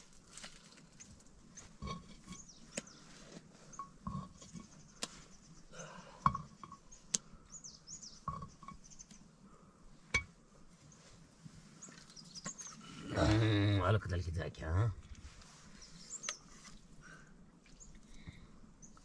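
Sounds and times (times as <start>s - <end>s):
birds chirping: 1.5s - 14.9s, 15.7s - 19.0s.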